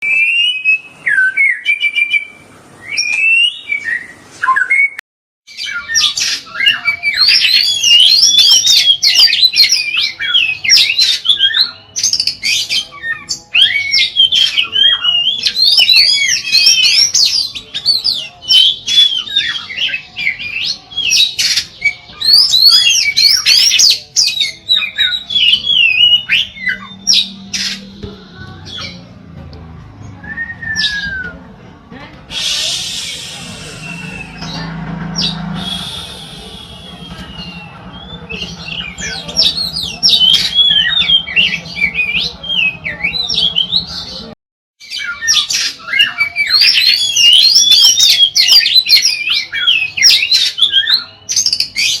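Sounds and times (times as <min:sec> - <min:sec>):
bird singing whistled notes: 0:00.0 - 0:29.0, 0:30.2 - 0:31.4, 0:32.4 - 0:44.2.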